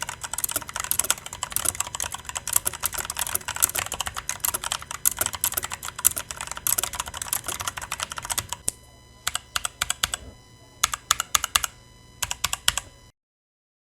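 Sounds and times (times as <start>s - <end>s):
mechanical keyboard typing: 0.0s - 12.9s.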